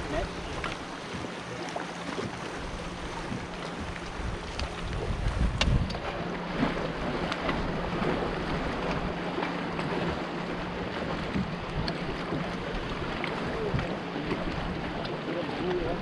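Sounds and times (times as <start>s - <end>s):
boat engine hum: 0.0s - 16.0s
rushing water: 0.0s - 16.0s
wind buffeting microphone: 2.1s - 16.0s.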